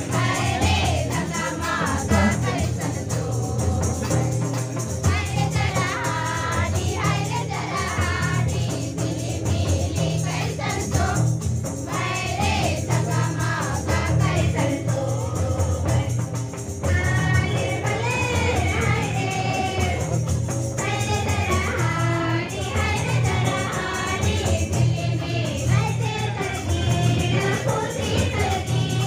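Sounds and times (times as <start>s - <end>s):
girls singing in chorus: 0.0s - 4.2s, 5.0s - 29.0s
percussion accompaniment: 0.0s - 29.0s.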